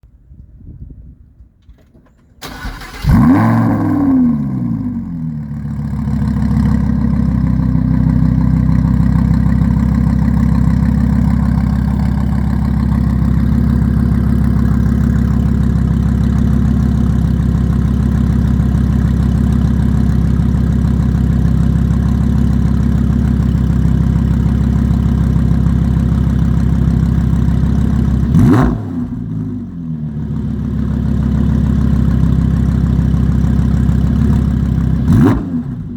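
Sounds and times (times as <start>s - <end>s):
sports car engine starting and idling: 1.7s - 35.9s.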